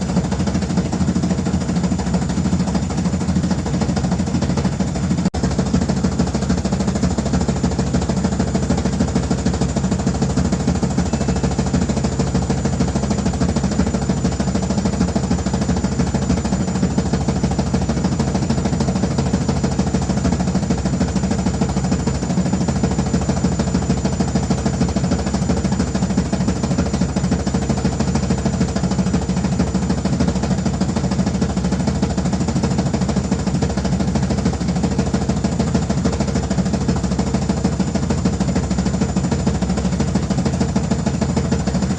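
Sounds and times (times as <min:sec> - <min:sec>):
washing machine running: 0:00.0 - 0:41.9.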